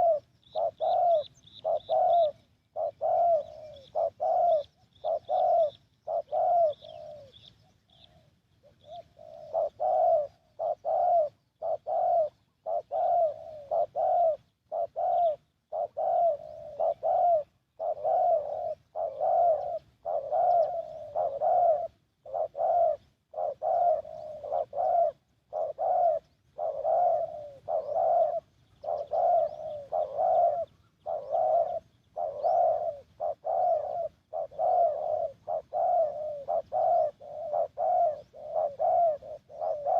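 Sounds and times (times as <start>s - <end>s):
dove cooing: 0.0s - 39.9s
small bird chirping faintly: 0.0s - 39.9s.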